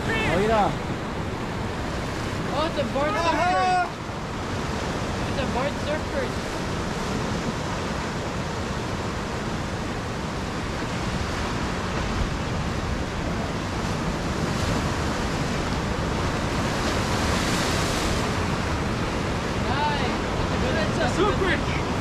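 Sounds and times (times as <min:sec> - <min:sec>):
ocean surf breaking on rocks: 0:00.0 - 0:22.0.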